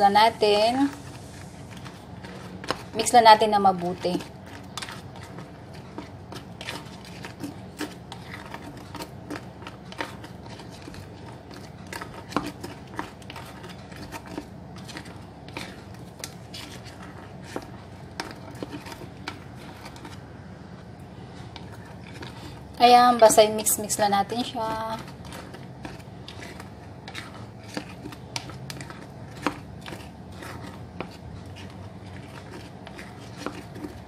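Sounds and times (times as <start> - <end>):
low steady hum: 0.0 - 34.0
spatula scraping ceramic bowl: 0.4 - 20.4, 21.2 - 34.0.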